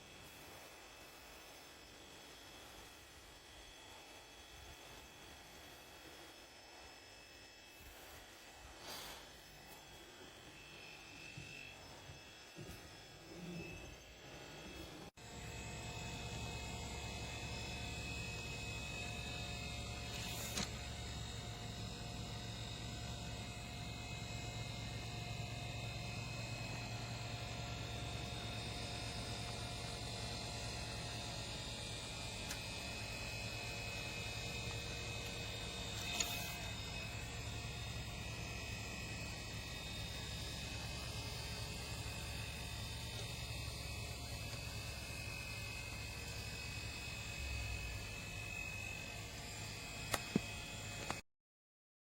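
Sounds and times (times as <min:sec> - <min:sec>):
electric motor humming: 0:00.0 - 0:51.2.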